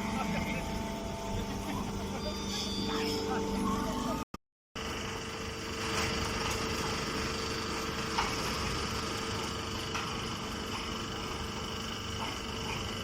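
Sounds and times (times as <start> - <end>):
baler mechanical hum: 0.0 - 13.0.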